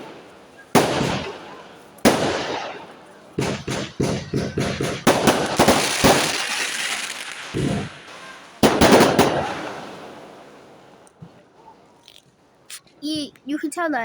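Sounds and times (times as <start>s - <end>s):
fireworks cracking and banging: 0.0s - 11.4s.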